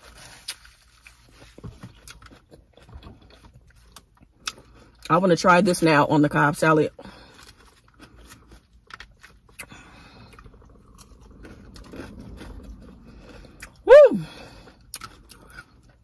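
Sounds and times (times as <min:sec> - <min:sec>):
person chewing crunchy salad: 0:00.0 - 0:05.1, 0:07.0 - 0:16.0.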